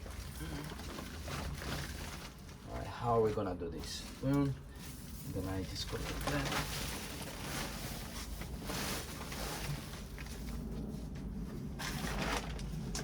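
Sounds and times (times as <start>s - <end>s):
rustling and scraping of potting mix: 0.0s - 13.0s.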